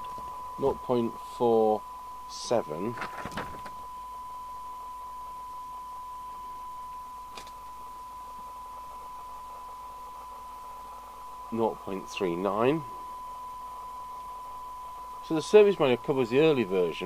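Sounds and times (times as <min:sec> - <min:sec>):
radio hiss: 0:00.0 - 0:04.8, 0:07.7 - 0:17.0
steady test tone: 0:00.0 - 0:17.0.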